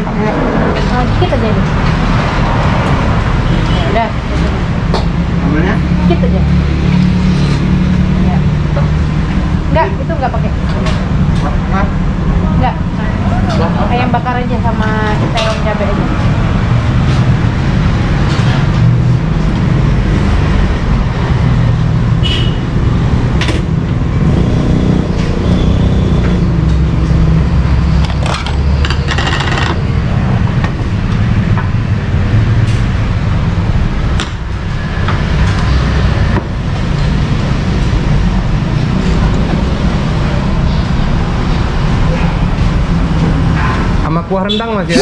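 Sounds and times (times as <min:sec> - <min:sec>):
street traffic rumble: 0:00.0 - 0:45.0.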